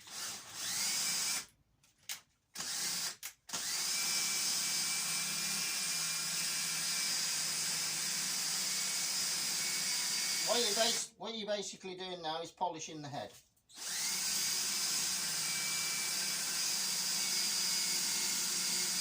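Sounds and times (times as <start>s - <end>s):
electric drill whining: 0.0s - 1.5s, 2.6s - 11.0s, 13.7s - 19.0s.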